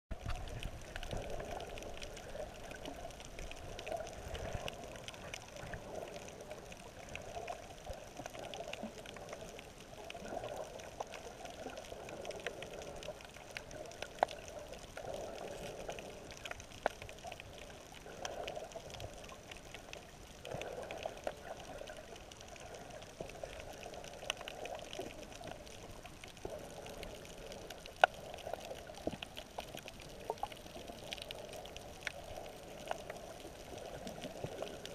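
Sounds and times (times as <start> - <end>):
muffled underwater rushing: 0.1 - 34.9.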